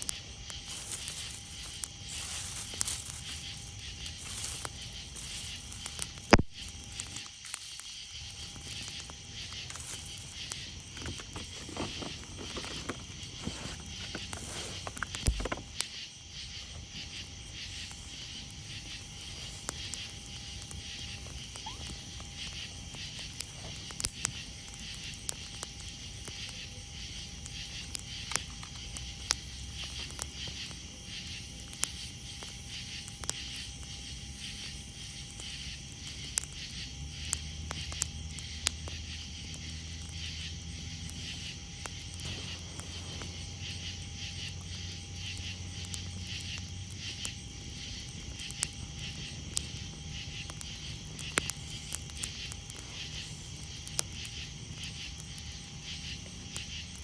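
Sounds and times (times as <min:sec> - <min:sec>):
campfire crackling: 0:00.0 - 0:57.0
night insects chirping: 0:00.0 - 0:57.0.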